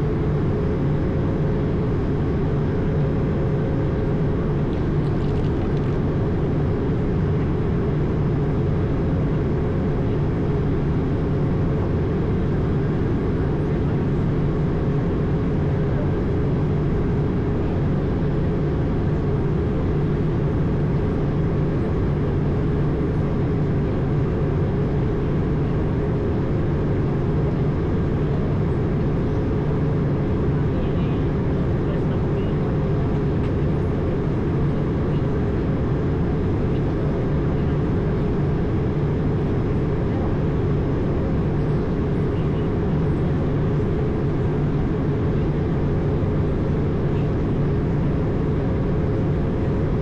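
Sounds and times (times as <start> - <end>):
faint steady hum: 0.0 - 50.0
jet engine rumble in cockpit: 0.0 - 50.0.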